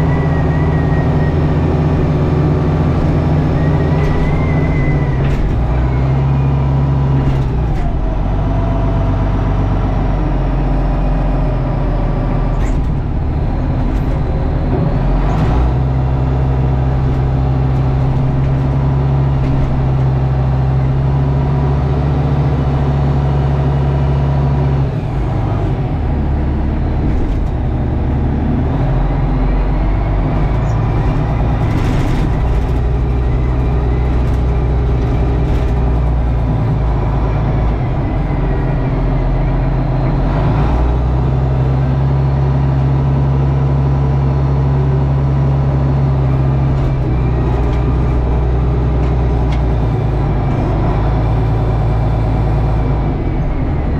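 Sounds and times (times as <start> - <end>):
tractor engine under load: 0.0 - 53.9.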